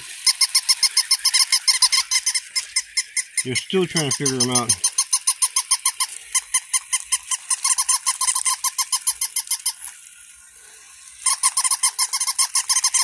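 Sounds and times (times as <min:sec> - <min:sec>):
electronic toy puppy yipping: 0:00.0 - 0:10.0, 0:11.2 - 0:13.0.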